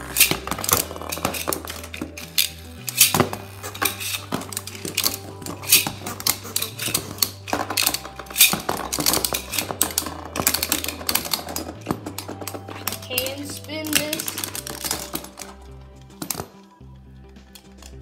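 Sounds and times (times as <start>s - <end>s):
spinning tops clattering: 0.0s - 16.6s.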